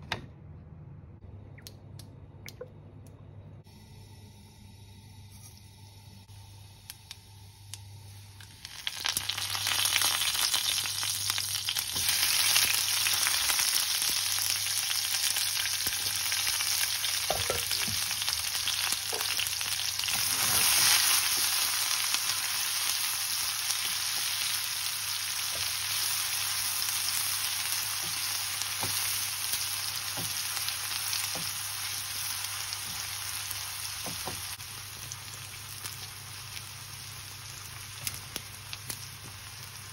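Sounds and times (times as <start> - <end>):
food sizzling in hot oil: 6.4 - 39.9.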